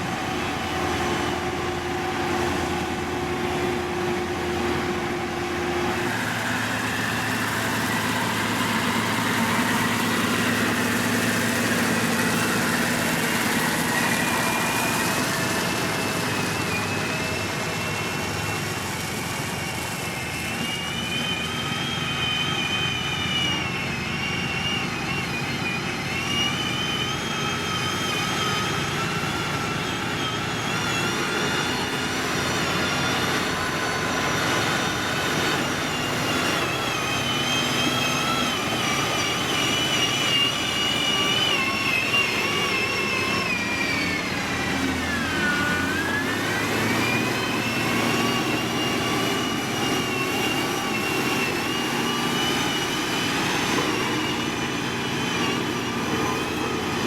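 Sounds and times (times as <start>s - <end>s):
diesel machinery engine running: 0.0s - 57.0s
high whine: 0.0s - 57.0s.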